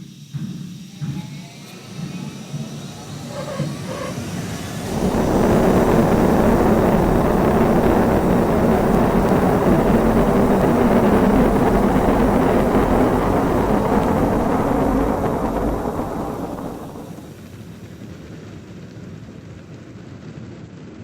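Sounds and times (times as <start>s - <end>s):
rocket engines rumbling: 0.6s - 18.4s.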